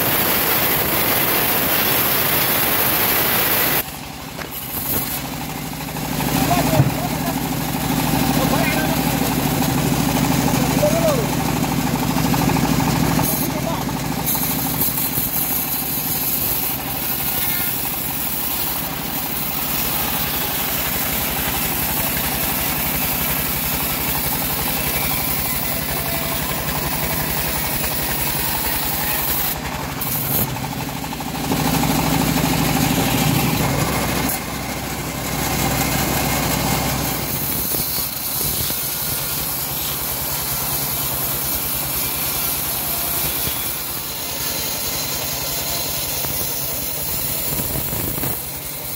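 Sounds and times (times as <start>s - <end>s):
band sawmill cutting log: 0.0s - 48.9s.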